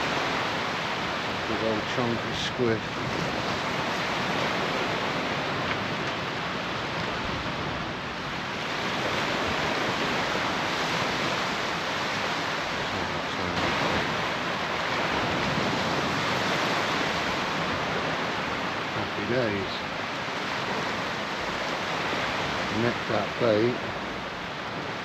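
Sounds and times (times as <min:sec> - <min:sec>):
waves breaking on beach: 0:00.0 - 0:25.0.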